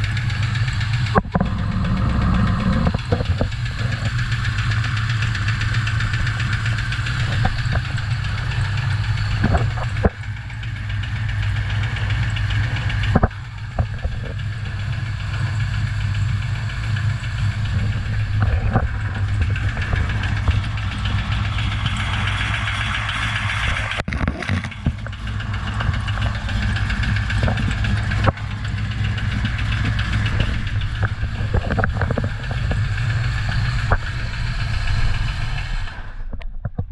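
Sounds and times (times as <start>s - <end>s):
engine running with a knock: 0.0s - 36.9s.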